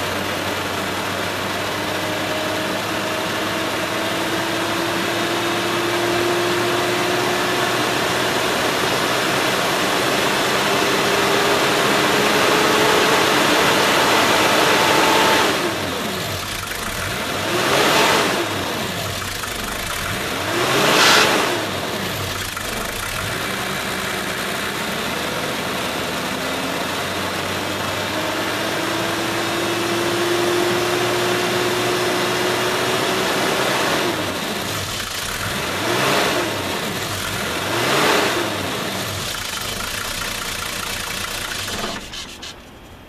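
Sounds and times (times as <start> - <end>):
diesel engine revving: 0.0 - 43.0.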